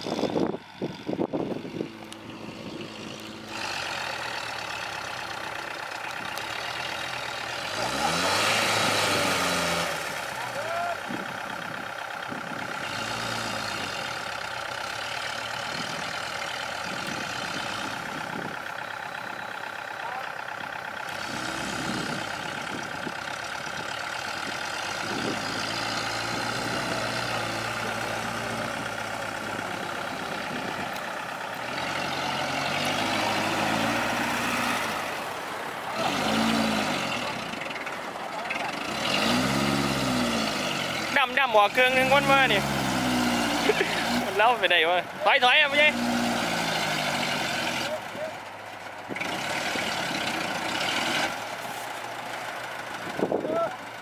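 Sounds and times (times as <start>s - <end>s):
heavy diesel machinery engines: 0.0s - 54.0s.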